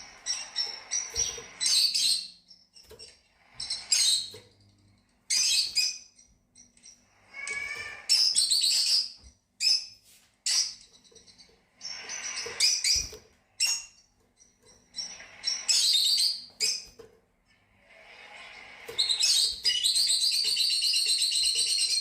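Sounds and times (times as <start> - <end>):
lovebirds chirping and twittering: 0.0 - 22.0.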